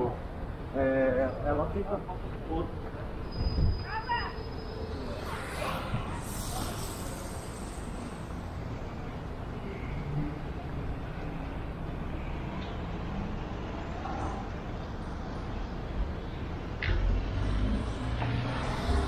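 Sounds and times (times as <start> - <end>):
passing cars rumbling: 1.5 - 19.0.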